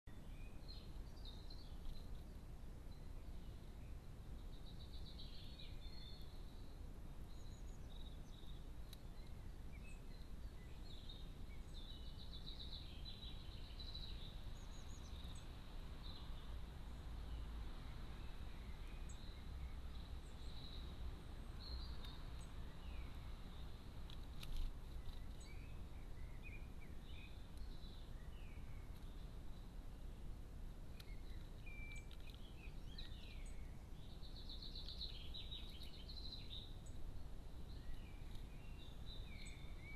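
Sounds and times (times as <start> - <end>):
songbirds chirping and trilling: 0.1 - 39.9.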